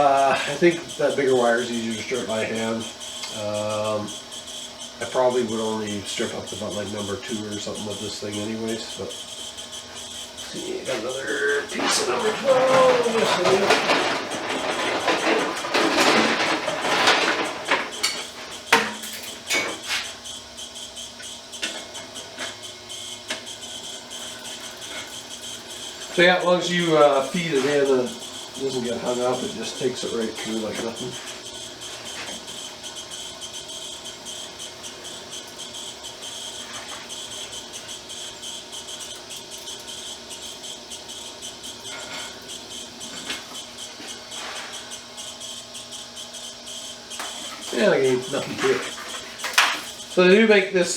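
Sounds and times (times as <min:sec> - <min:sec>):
wire stripper machine clattering: 0:00.0 - 0:50.9.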